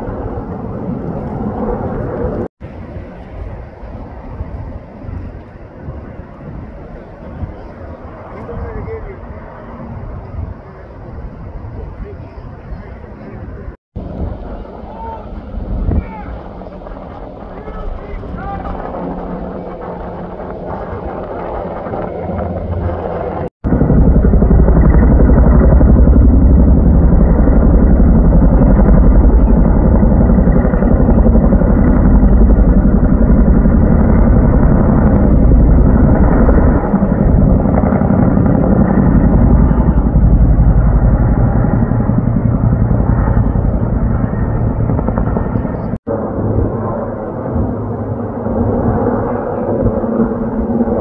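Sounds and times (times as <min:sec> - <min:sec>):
helicopter rotor pulsing: 0:00.0 - 0:51.0.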